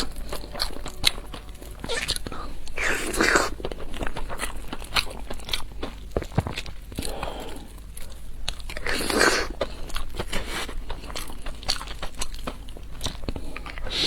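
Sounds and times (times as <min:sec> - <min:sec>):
chewing and biting food: 0:00.0 - 0:14.0.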